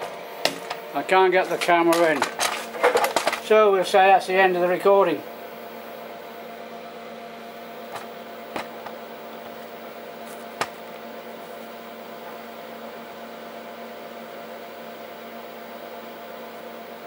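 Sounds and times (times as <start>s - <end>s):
lathe humming at idle: 0.0s - 17.0s.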